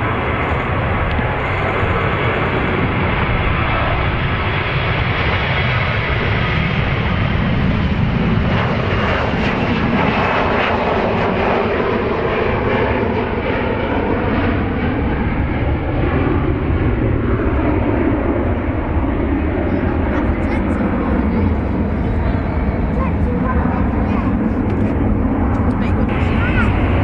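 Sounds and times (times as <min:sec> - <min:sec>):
airliner engines running: 0:00.0 - 0:27.0.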